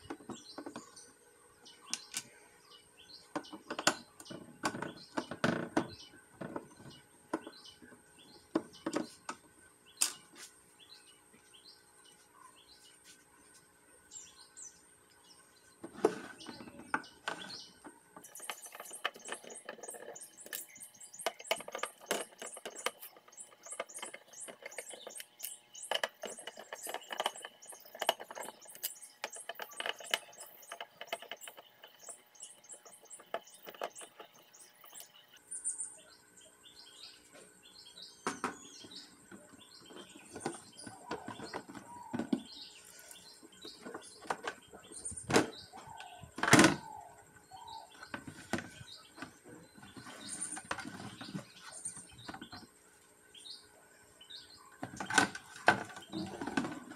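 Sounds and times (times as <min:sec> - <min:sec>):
birds chirping faintly: 0:00.0 - 0:56.9.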